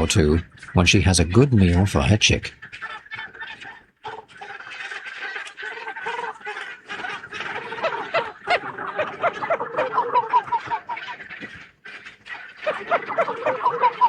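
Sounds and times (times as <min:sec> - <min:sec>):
seabird colony calling: 0:00.0 - 0:14.0.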